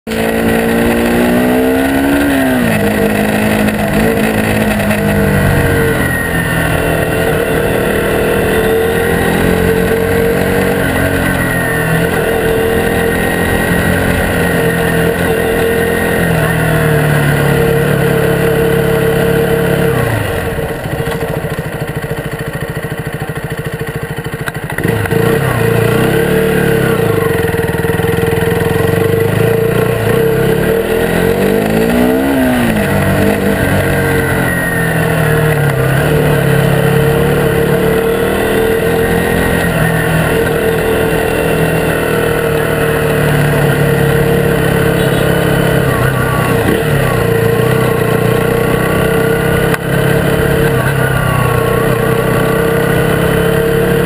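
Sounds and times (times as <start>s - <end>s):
small motorbike engine revving: 0.1s - 54.0s.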